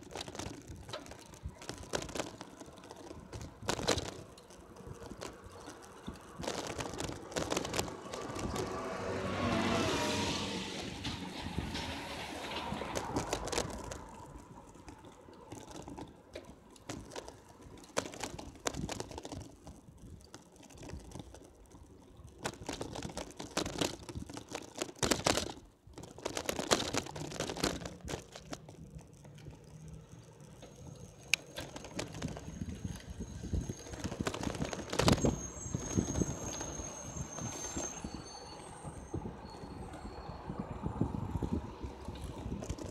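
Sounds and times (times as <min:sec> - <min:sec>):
bicycle clicking and rattling: 0:00.0 - 0:42.9.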